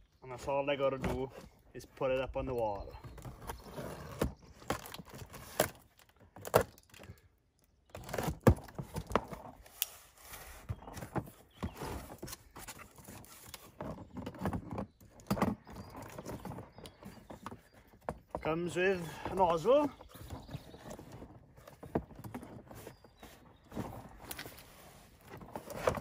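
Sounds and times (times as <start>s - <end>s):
cardboard flaps scraping and rustling: 2.9s - 6.7s, 7.9s - 18.3s, 19.3s - 26.0s.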